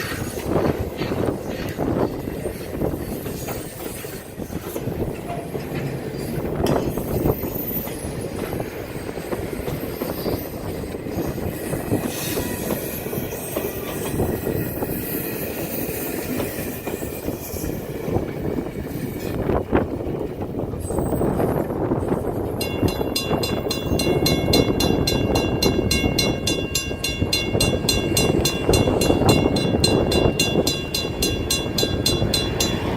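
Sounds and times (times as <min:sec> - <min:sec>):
train wheels rumbling on rail: 0:00.0 - 0:32.9.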